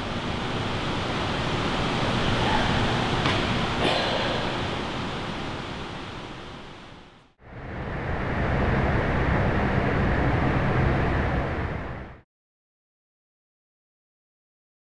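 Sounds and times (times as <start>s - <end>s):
room noise hiss: 0.0s - 12.0s
low hum: 0.0s - 12.2s.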